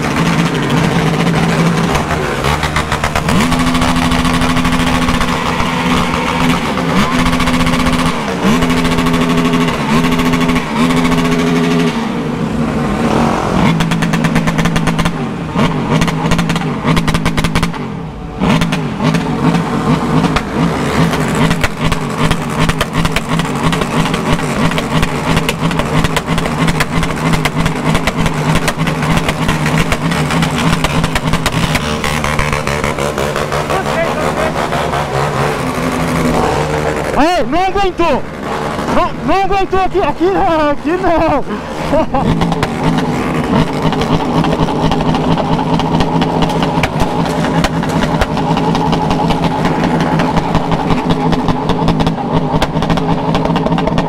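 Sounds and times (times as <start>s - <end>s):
dense run of sharp sounds: 0.0s - 54.0s
motorcycle engines idling and revving: 0.0s - 54.0s.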